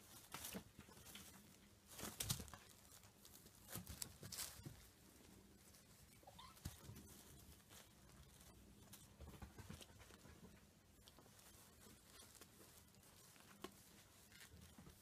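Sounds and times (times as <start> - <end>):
kittens scuffling: 0.0 - 15.0
sheet rustling: 0.0 - 15.0.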